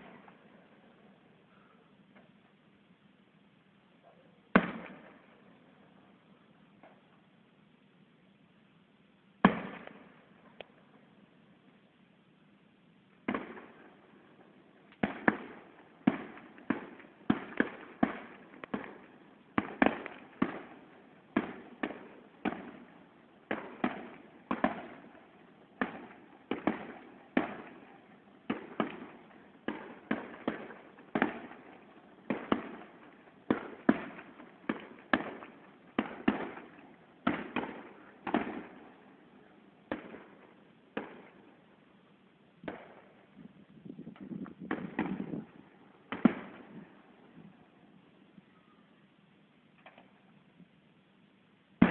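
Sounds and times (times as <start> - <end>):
fireworks bursting with echoes: 0.0 - 2.5, 3.9 - 7.2, 9.4 - 11.2, 13.1 - 48.9.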